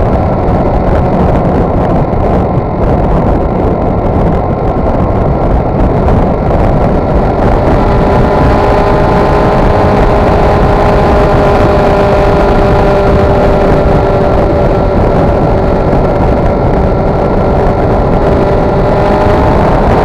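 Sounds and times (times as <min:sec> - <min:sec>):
motorcycle engine droning: 0:00.0 - 0:20.0
wind rushing over microphone: 0:00.0 - 0:20.0.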